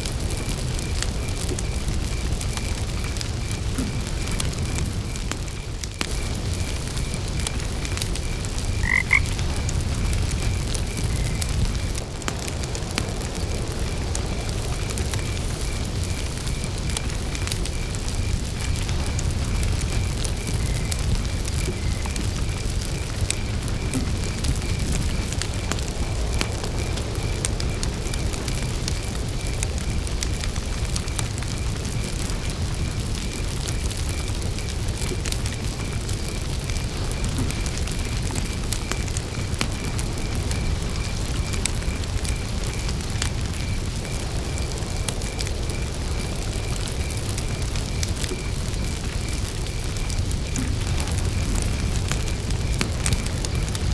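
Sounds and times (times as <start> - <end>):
campfire crackling: 0.0 - 53.9
cricket chirping: 0.0 - 53.9.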